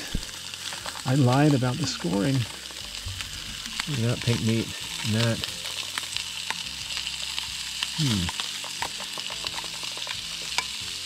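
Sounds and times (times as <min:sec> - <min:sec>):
fish sizzling in a pan: 0:00.0 - 0:11.0
popping spattering fat: 0:00.0 - 0:11.0.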